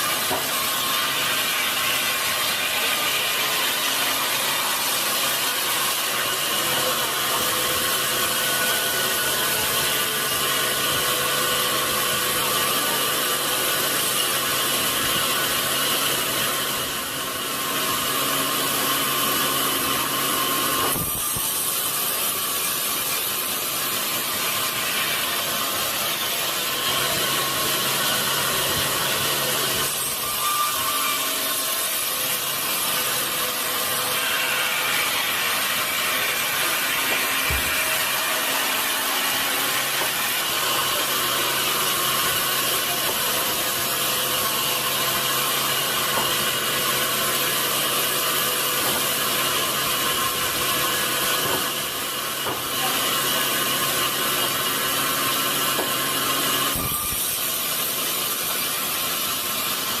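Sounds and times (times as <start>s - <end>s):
sawmill saw cutting log: 0.0s - 60.0s.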